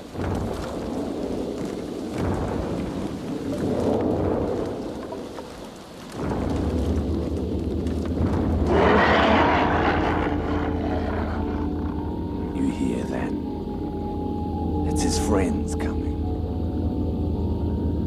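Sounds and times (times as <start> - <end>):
deep rolling rumble with hiss: 0.0 - 14.9.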